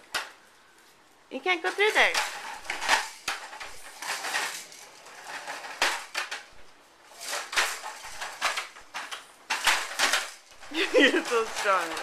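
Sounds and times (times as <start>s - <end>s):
plastic wheels rattling on tile: 1.4s - 12.0s.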